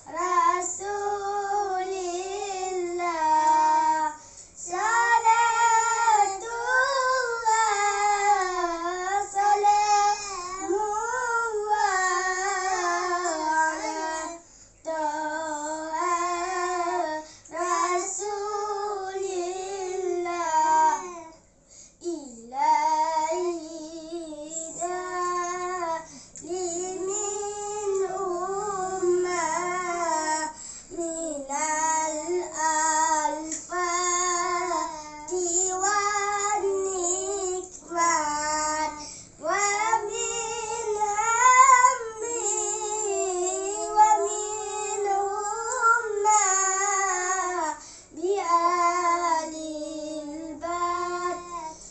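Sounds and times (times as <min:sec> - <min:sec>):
boys singing devotional chant: 0:00.0 - 0:21.4, 0:22.0 - 0:51.9.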